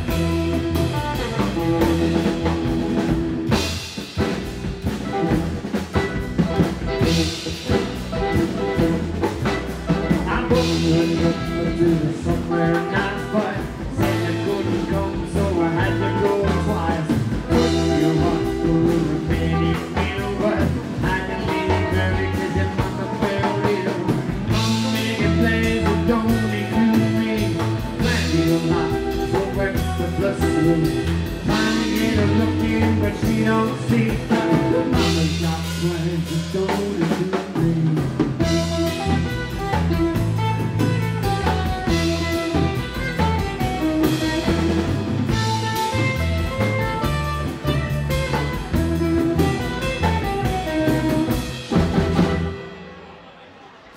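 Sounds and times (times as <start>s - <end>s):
upright double bass: 0.0s - 52.6s
electric guitar: 0.0s - 53.1s
drum kit: 0.0s - 53.3s.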